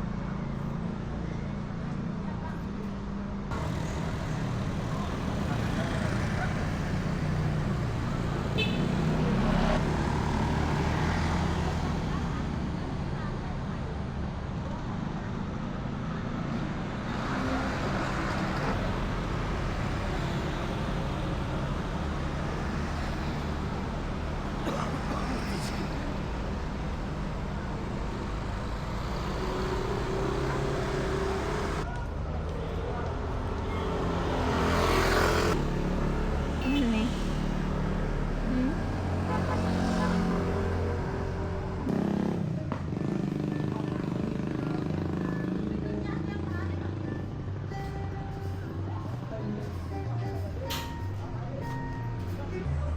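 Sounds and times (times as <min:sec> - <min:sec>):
road traffic engines: 0:00.0 - 0:52.9.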